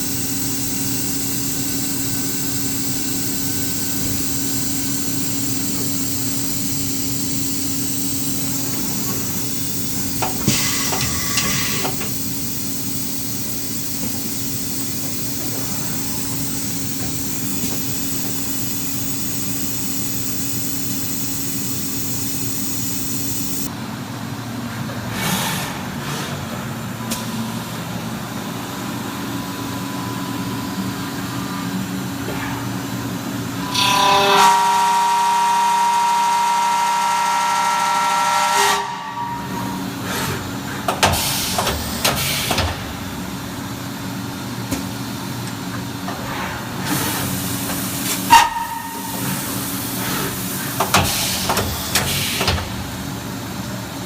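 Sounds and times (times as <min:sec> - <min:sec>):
machining center hum and hiss: 0:00.0 - 0:54.0.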